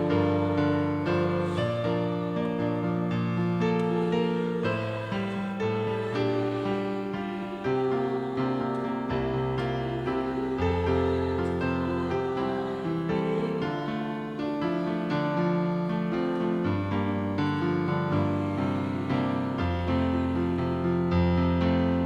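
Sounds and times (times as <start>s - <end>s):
organ playing a slow hymn: 0.0s - 22.0s.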